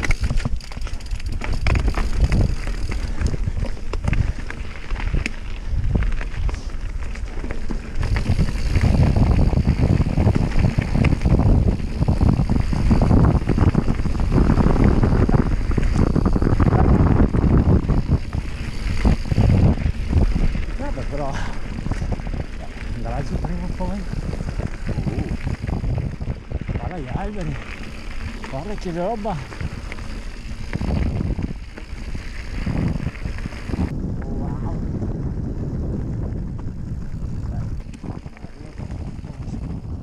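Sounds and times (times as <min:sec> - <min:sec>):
bike rattling and knocking: 0:00.0 - 0:34.1, 0:35.5 - 0:40.0
bike tyres on dirt trail: 0:00.0 - 0:40.0
wind buffeting microphone: 0:00.0 - 0:40.0.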